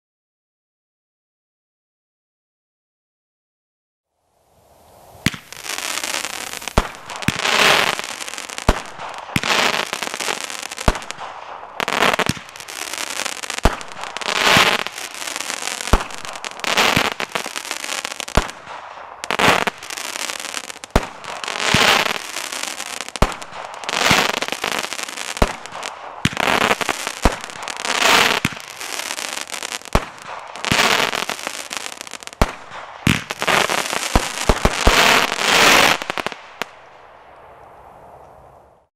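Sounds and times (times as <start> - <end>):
firework bangs with crackling: 5.0 - 37.6.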